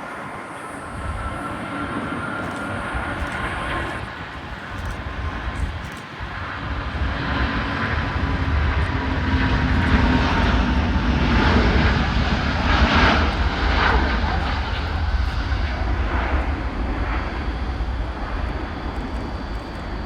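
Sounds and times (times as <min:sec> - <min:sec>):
faint jet engine whine: 0:00.0 - 0:20.0
jet engines low rumble: 0:00.0 - 0:20.0.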